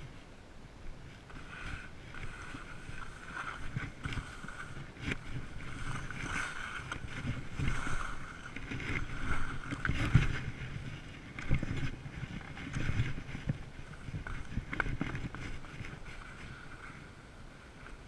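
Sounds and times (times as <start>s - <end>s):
wind on microphone: 0.0s - 18.0s
skis scraping over snow: 0.9s - 18.0s
skis thumping over bumps: 1.2s - 18.0s.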